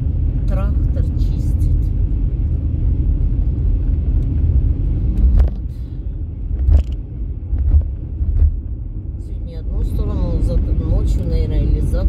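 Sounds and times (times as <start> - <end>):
engine and road noise rumble: 0.0 - 12.0.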